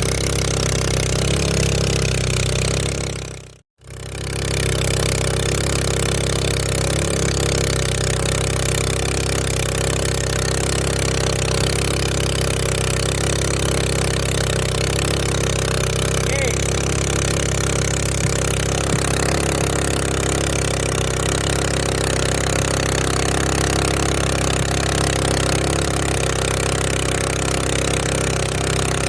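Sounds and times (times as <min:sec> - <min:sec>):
small boat engine running: 0:00.0 - 0:29.0.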